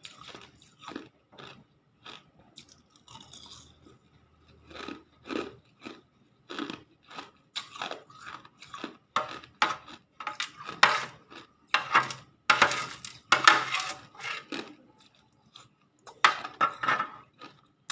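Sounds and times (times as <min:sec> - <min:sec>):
ice crunching being chewed: 0:00.0 - 0:11.6, 0:14.0 - 0:16.4, 0:17.2 - 0:17.8.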